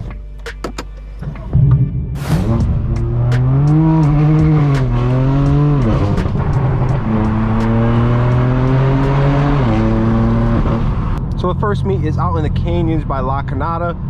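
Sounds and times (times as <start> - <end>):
car exhaust droning: 1.2 - 14.0.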